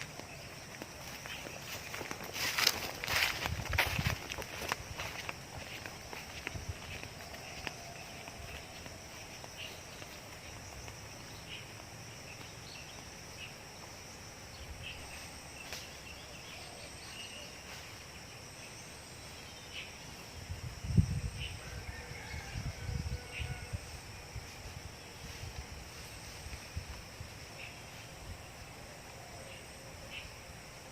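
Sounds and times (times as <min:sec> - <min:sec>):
insect drone: 0:00.0 - 0:30.9.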